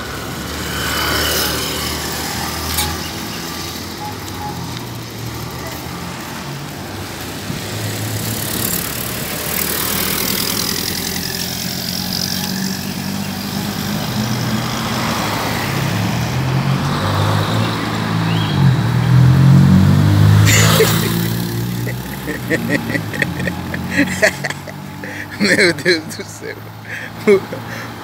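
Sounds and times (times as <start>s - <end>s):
street noise: 0.0s - 28.0s.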